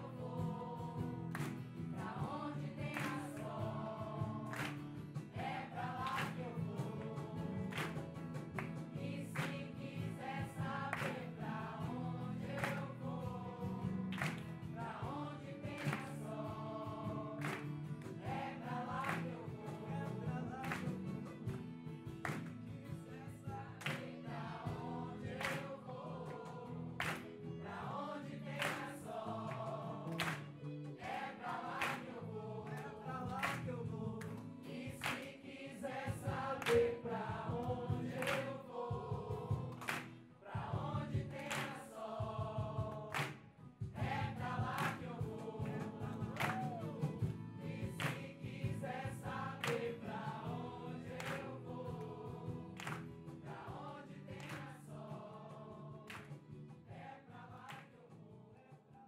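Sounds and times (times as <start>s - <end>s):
choir singing over a beat: 0.0s - 21.4s, 23.0s - 58.5s.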